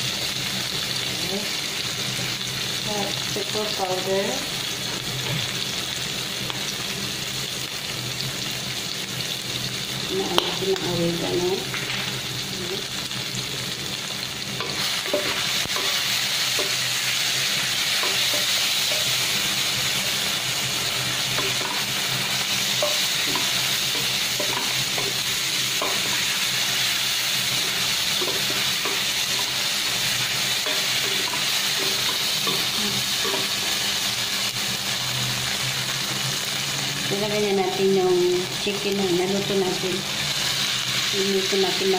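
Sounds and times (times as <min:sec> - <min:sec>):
vegetables sizzling in hot oil: 0:00.0 - 0:41.9.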